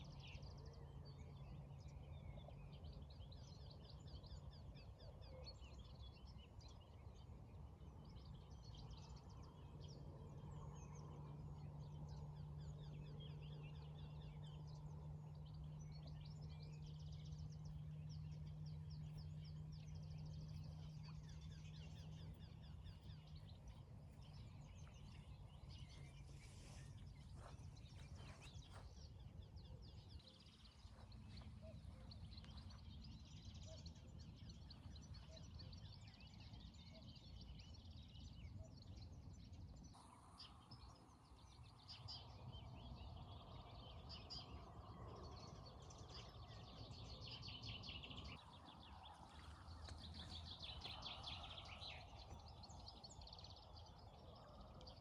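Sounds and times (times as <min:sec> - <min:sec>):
faint songbirds chirping: 0:00.0 - 0:55.0
steady low hum: 0:00.0 - 0:55.0
low background rumble: 0:05.5 - 0:55.0.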